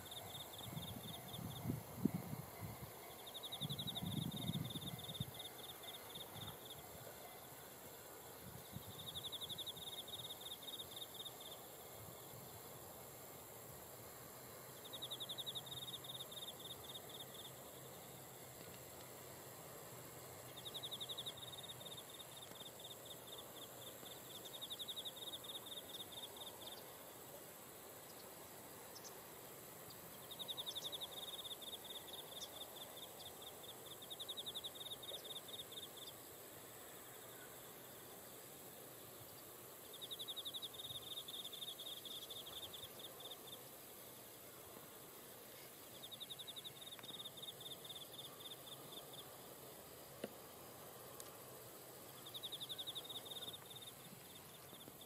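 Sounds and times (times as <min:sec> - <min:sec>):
insect trilling: 0:00.0 - 0:12.3, 0:14.1 - 0:55.0
faint background hiss: 0:00.0 - 0:55.0.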